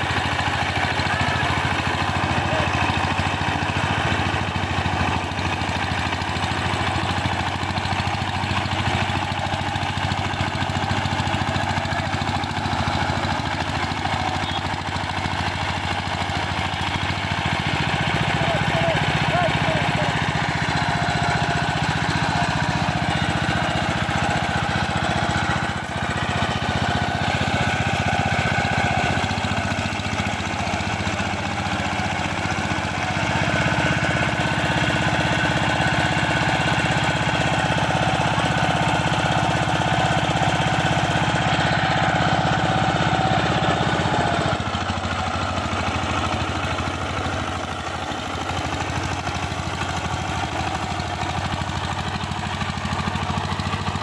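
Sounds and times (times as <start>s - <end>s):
diesel engine under heavy load: 0.0s - 54.0s.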